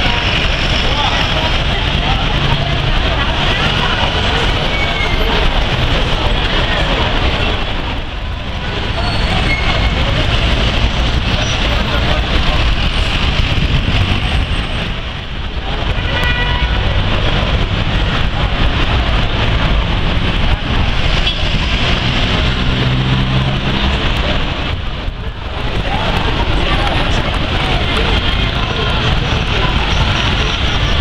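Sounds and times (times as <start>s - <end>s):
traffic engines and tyres: 0.0s - 31.0s.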